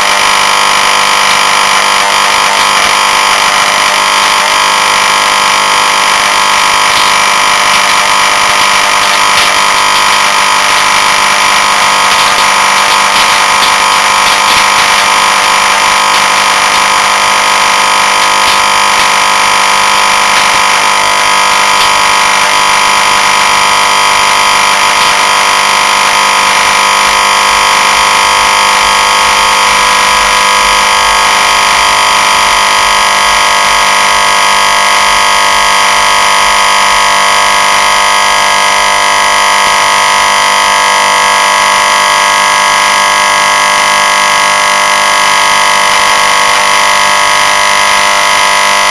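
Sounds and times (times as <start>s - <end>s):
electric motor buzzing: 0.0s - 48.9s.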